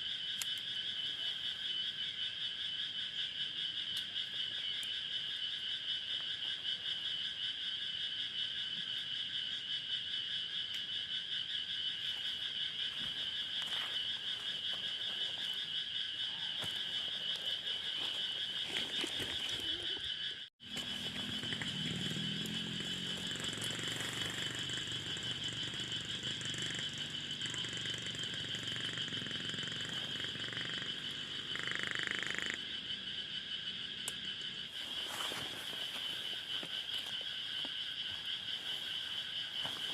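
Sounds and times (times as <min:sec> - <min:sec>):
frogs calling: 0:00.0 - 0:39.9
insects chirping: 0:00.0 - 0:39.9.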